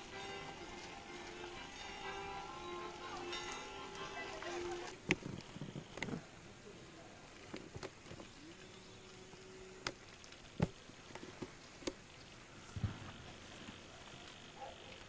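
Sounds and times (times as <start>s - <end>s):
faint steady tone: 0.0s - 15.0s.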